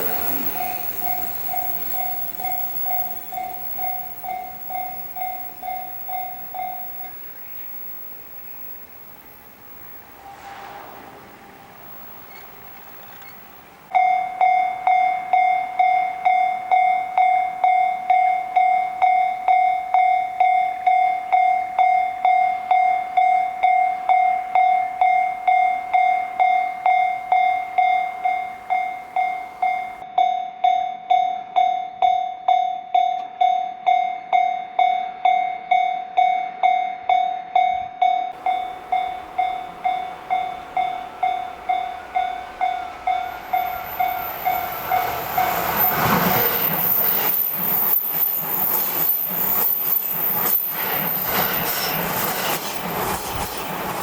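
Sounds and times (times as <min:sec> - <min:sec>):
faint rising train whine: 0:00.0 - 0:30.0, 0:38.4 - 0:54.0
railroad crossing warning bell: 0:00.0 - 0:54.0.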